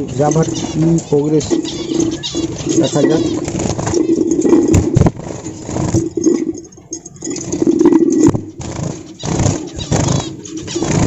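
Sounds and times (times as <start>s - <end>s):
knocks and clatter: 0.0s - 11.0s.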